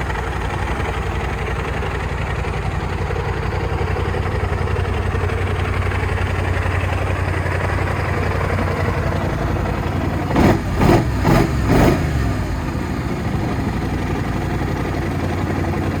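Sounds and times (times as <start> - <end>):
scooter engine idling and revving: 0.0 - 16.0.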